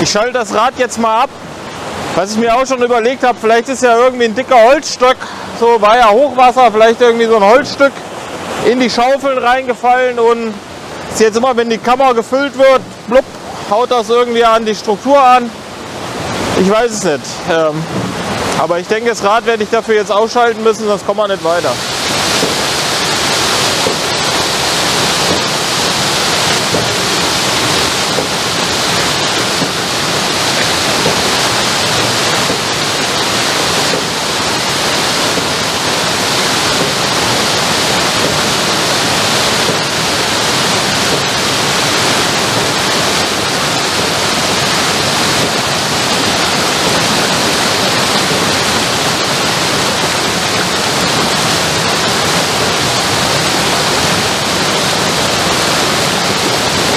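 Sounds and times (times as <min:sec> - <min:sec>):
water rushing over rocks: 0:00.0 - 0:56.9.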